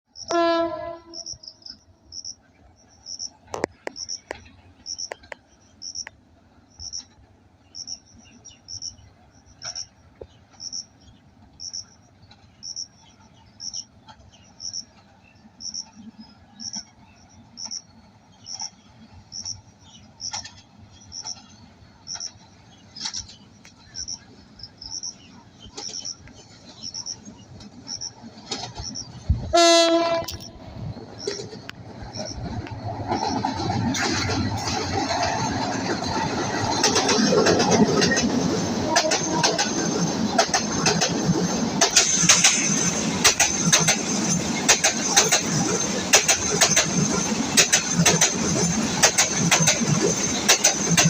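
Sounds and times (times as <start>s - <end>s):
cricket chirping: 1.1s - 29.4s, 30.2s - 51.0s.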